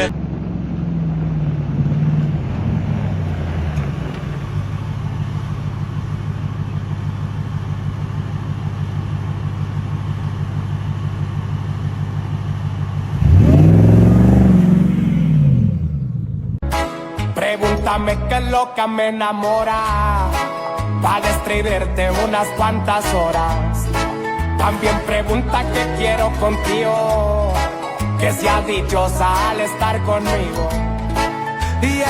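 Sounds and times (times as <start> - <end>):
truck engine idling and revving: 0.0 - 18.6, 19.6 - 32.0.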